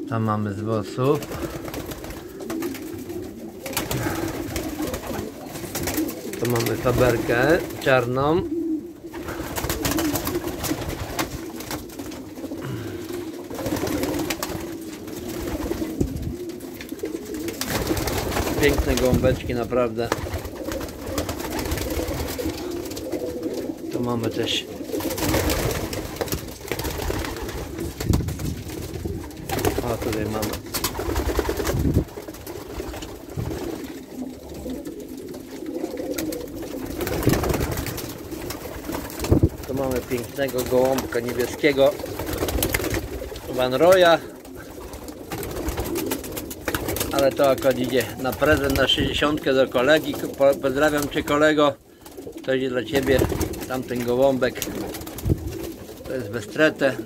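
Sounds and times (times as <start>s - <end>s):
pigeons cooing: 0.0s - 57.0s
wings flapping: 0.8s - 57.0s.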